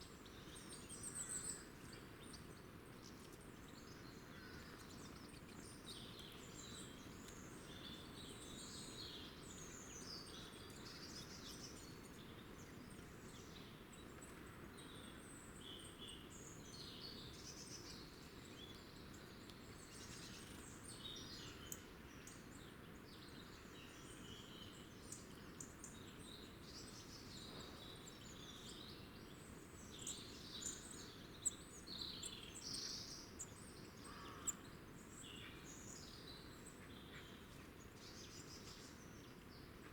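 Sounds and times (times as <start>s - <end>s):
low background hiss: 0.0s - 39.9s
small birds chirping: 0.0s - 39.9s.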